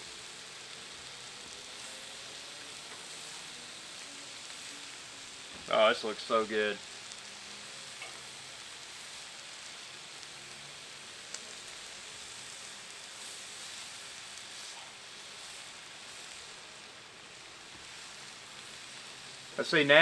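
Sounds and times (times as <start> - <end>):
steak sizzling on griddle: 0.0 - 20.0.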